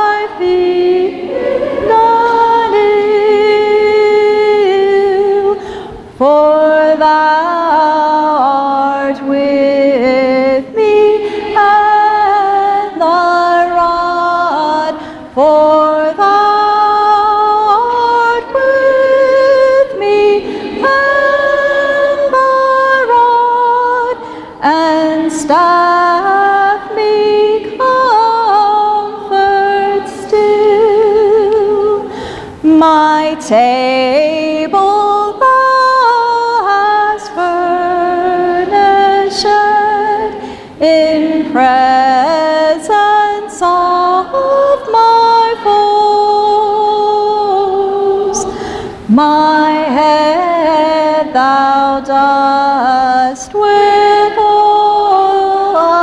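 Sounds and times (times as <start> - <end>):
women singing a hymn: 0.0 - 56.0.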